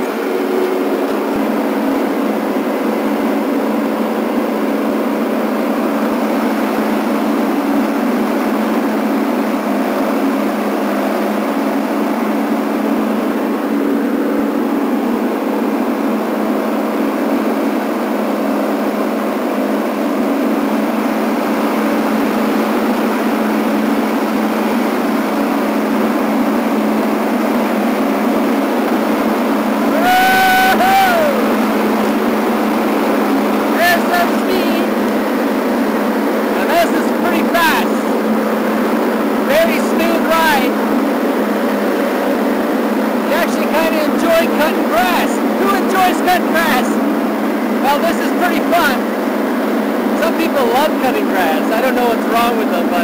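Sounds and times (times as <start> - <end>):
lawn tractor engine running: 0.0 - 53.0.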